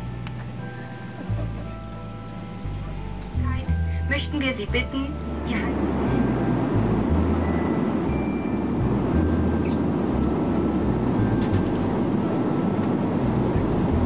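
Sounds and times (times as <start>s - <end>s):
airliner cabin engine drone: 0.0s - 14.0s.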